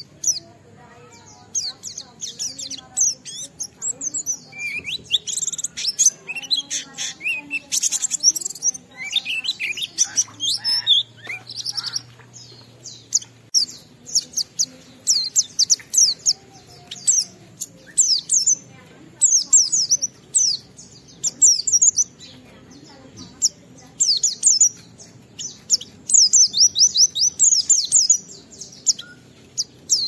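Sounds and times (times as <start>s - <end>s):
bird chirping and twittering: 0.0s - 30.0s.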